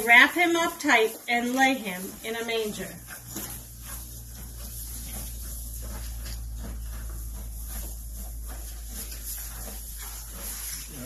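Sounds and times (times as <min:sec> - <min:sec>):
horses munching hay: 0:00.0 - 0:11.0.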